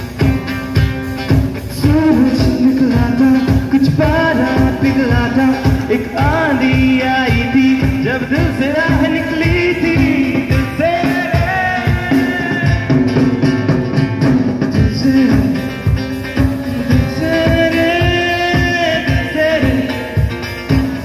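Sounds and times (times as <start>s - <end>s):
acoustic guitar: 0.0s - 21.0s
drum kit beat: 0.0s - 21.0s
man singing: 1.6s - 13.7s, 14.6s - 21.0s.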